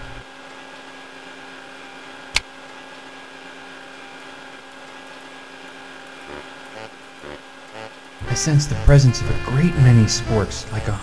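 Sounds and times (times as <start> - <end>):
ventilation fans and pumps humming: 0.0 - 11.0.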